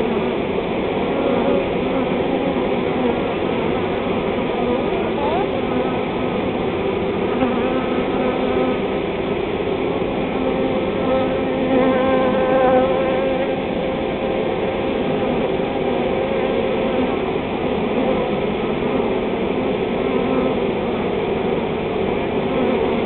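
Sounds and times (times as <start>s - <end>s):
swarm of bees buzzing: 0.0s - 23.0s.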